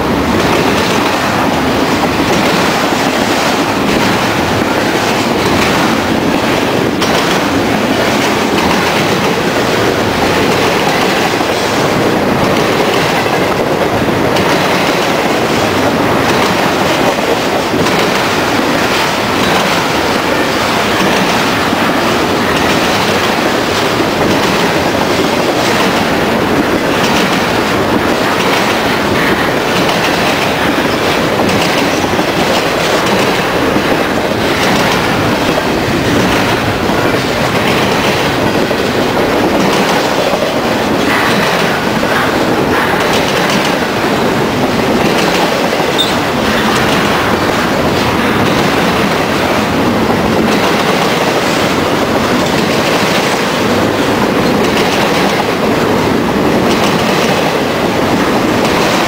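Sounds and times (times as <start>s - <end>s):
clacks over rail joints: 0.0s - 59.0s
train wheels rolling: 0.0s - 59.0s.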